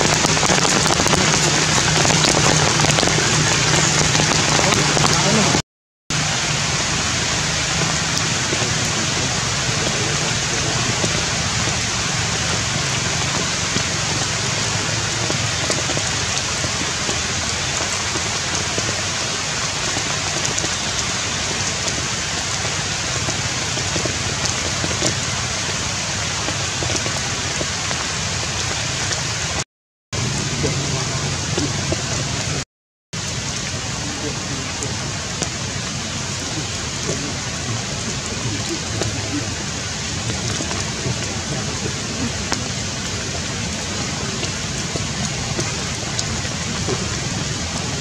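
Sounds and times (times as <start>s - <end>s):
rain hissing on foliage: 0.0s - 29.6s, 30.2s - 32.6s, 33.2s - 48.0s.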